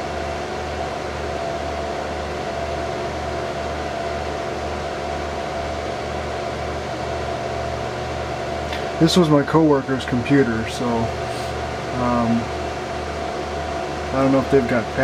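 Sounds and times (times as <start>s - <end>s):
computer fans whirring: 0.0s - 15.0s
low pulsing hum: 0.0s - 15.0s.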